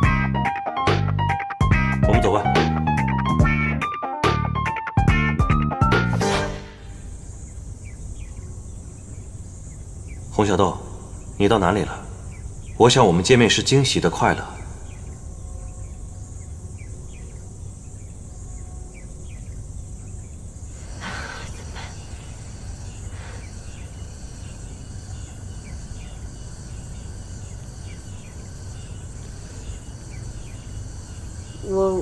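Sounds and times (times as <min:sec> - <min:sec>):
insect buzz: 0:00.0 - 0:32.0.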